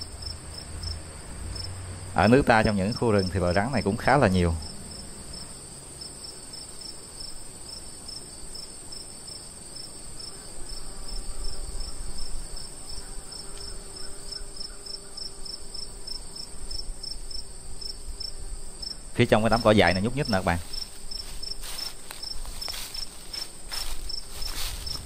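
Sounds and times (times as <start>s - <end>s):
crickets trilling: 0.0s - 25.0s
insect chirping: 0.0s - 25.0s.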